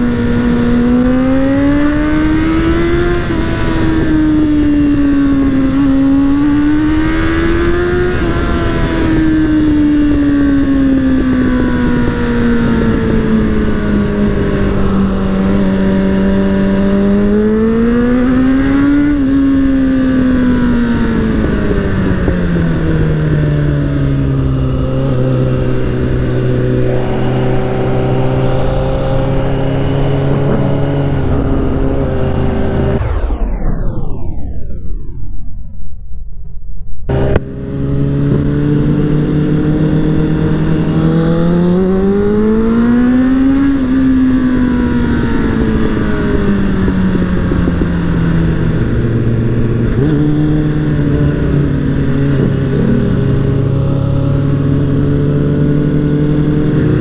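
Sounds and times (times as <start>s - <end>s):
motorcycle engine revving: 0.0s - 34.0s, 37.0s - 57.0s
wind rumble: 0.0s - 57.0s.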